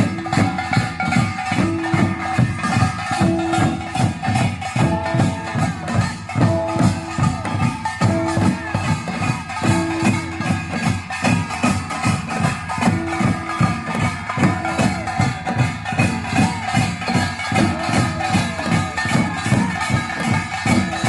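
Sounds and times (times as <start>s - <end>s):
hourglass drum strokes: 0.0s - 21.0s.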